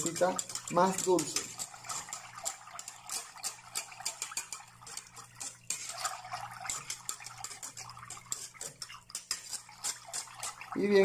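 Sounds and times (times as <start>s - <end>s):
liquid sloshing: 0.0s - 11.0s
whisk clicking against pot: 0.0s - 11.0s.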